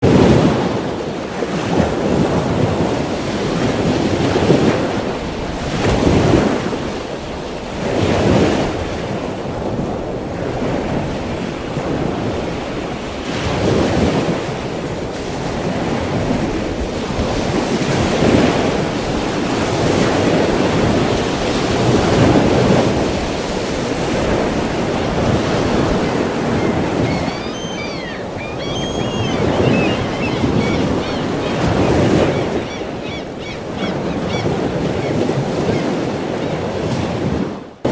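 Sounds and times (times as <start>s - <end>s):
ocean waves breaking: 0.0s - 37.9s.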